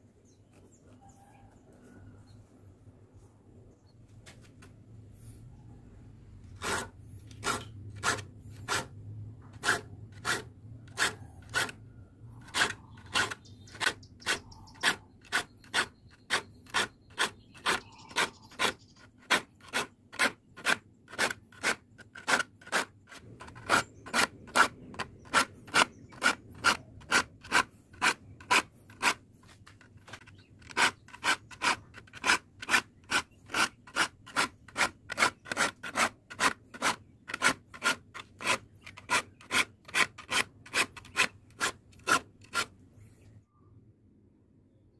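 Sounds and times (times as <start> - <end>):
file rasping on saw teeth: 6.5 - 42.7.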